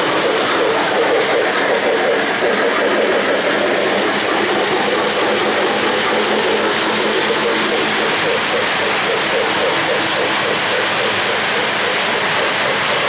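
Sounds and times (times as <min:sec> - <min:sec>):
model train wheels rumbling on rails: 0:00.0 - 0:13.0.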